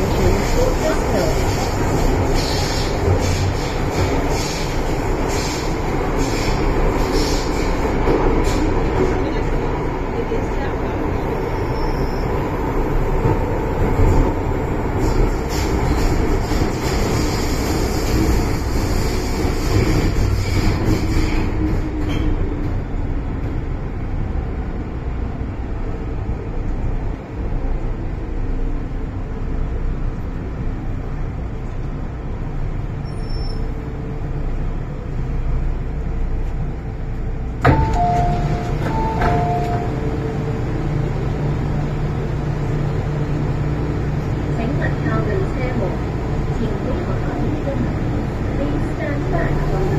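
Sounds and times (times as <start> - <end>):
train carriage rumble: 0.0 - 49.9.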